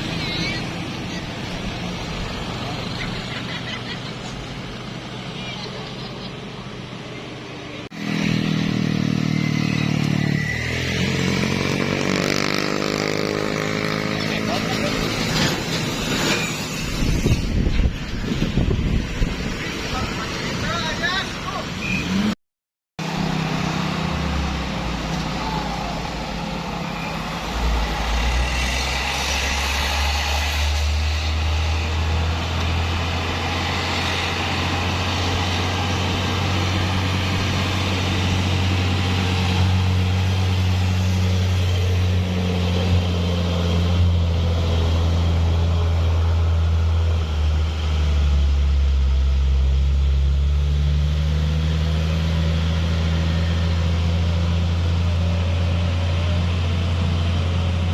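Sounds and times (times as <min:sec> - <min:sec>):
diesel truck engine droning: 0:00.0 - 0:22.4, 0:23.0 - 0:57.9.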